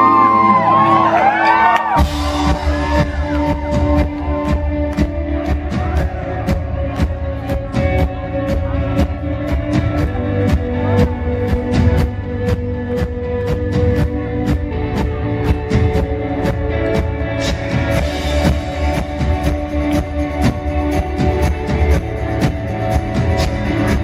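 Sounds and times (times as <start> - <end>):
live rock band playing: 0.0 - 24.0
steady drum beat: 2.0 - 24.0.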